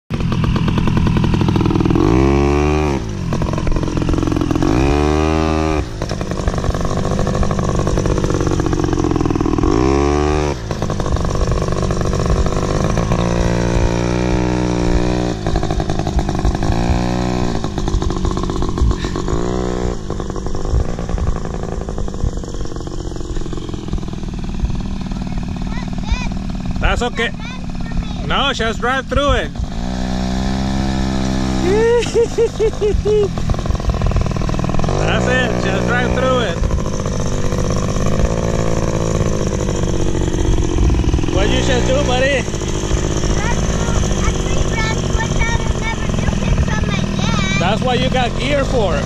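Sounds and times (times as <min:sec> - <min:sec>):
atv engines revving: 0:00.1 - 0:49.0.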